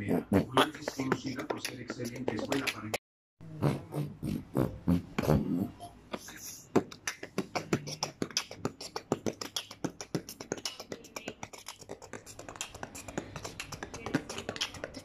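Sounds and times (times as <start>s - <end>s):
boy beatboxing: 0.0s - 15.0s.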